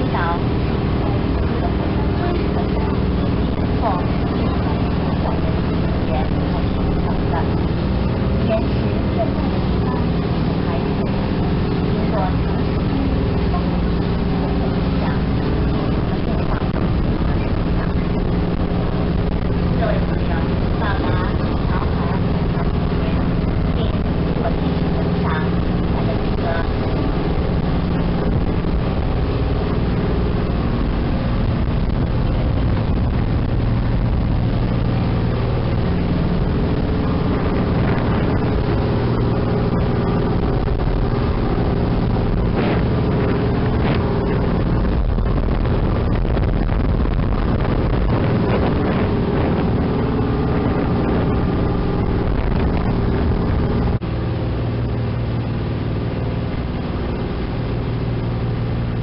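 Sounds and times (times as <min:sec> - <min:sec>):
boat engine humming: 0:00.0 - 0:59.0
rush of churning wake: 0:00.0 - 0:59.0.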